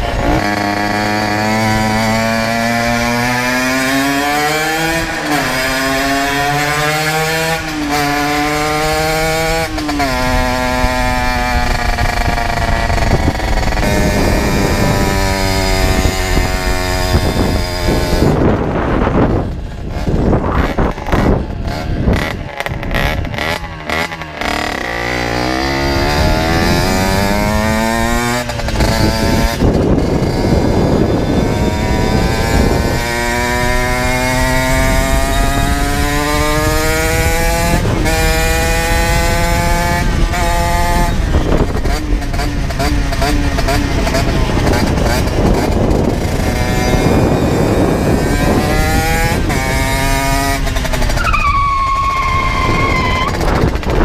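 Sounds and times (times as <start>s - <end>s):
two-stroke motorbike engine revving: 0.0s - 54.0s.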